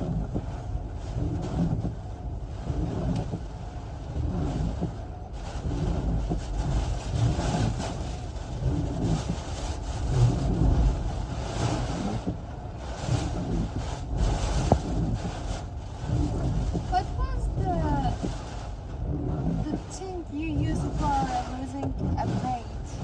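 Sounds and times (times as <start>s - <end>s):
gusty wind buffeting a car: 0.0s - 23.0s.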